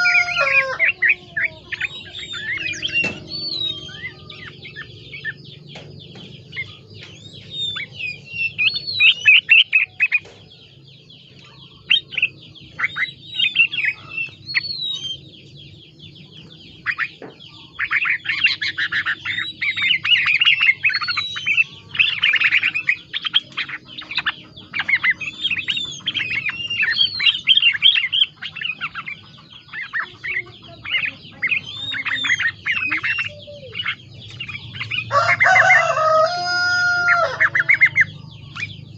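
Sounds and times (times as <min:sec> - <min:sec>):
bird chirping and whistling: 0:00.0 - 0:10.3, 0:11.3 - 0:15.6, 0:16.2 - 0:38.9.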